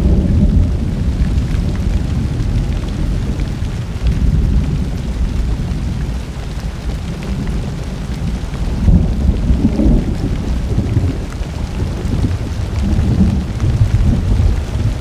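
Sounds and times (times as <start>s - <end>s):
low rolling thunder: 0.0s - 15.0s
steady rain: 0.0s - 15.0s.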